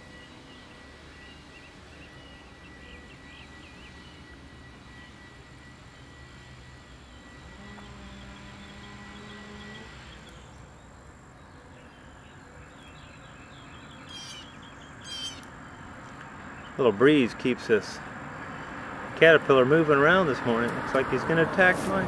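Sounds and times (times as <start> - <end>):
insect-like drone: 0.0 - 21.7
low hum: 0.0 - 22.0.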